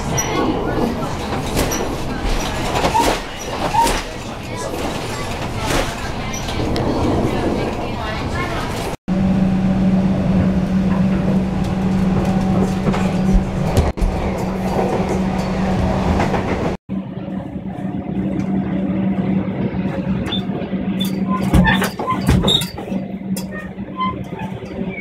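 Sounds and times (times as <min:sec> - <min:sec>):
train carriage rumble and rattle: 0:00.0 - 0:25.0.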